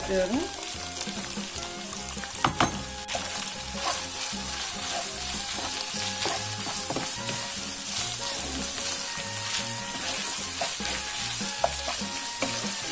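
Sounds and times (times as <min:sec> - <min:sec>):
food sizzling in oil: 0:00.0 - 0:12.9
wooden spoon stirring: 0:00.0 - 0:12.9.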